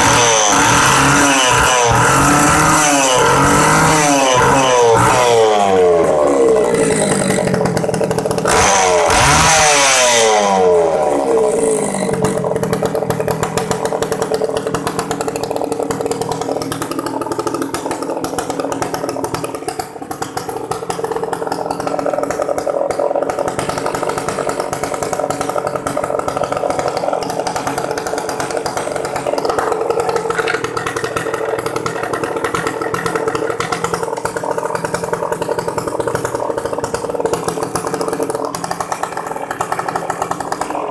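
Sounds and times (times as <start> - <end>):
chainsaw engine revving and idling: 0.0 - 40.9.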